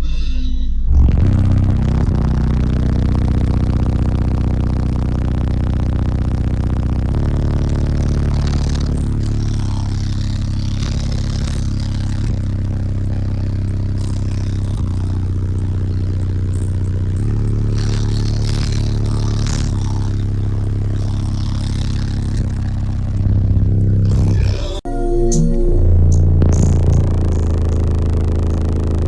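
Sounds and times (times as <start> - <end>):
loud deep bass from car subwoofers: 0.0 - 29.0.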